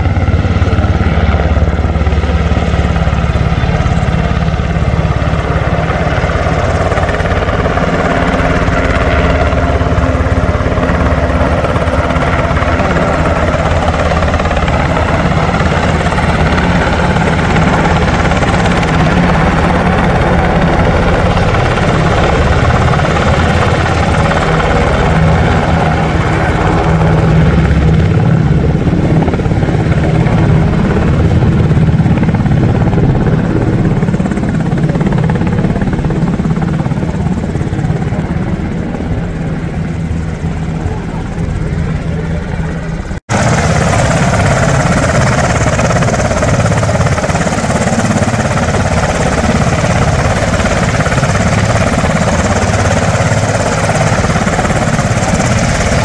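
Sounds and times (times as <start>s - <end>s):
helicopter rotor beat: 0.0s - 56.0s
turbine engine drone: 0.0s - 56.0s.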